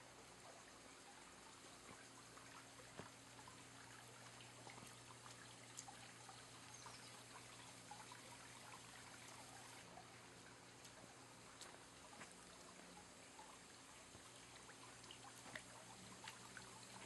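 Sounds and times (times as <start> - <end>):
faint low hum: 0.0 - 17.0
faint water trickling: 0.0 - 17.0
small ticks: 1.2 - 9.8, 10.8 - 17.0.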